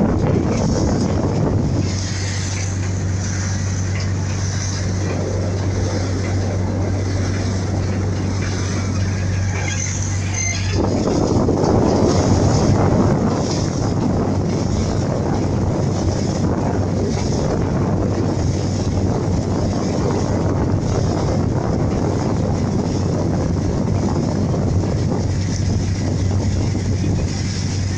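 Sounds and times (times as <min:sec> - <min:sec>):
boat engine humming: 0:00.0 - 0:27.9
water rushing past hull: 0:00.0 - 0:27.9
wind noise on microphone: 0:00.0 - 0:27.9.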